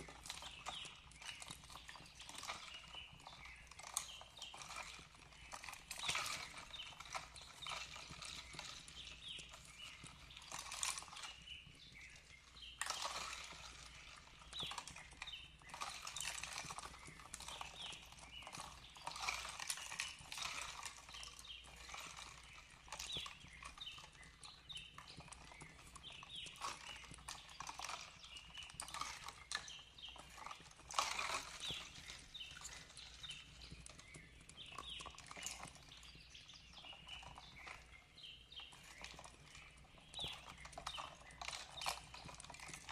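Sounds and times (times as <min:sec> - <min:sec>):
small birds chirping softly: 0:00.0 - 0:42.9.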